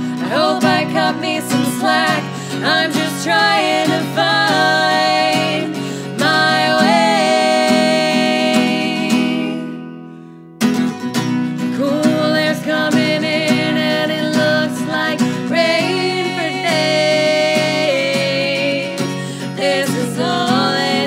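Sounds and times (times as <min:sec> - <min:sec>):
woman singing: 0:00.0 - 0:09.9, 0:11.6 - 0:21.0
acoustic guitar strumming: 0:00.0 - 0:21.0.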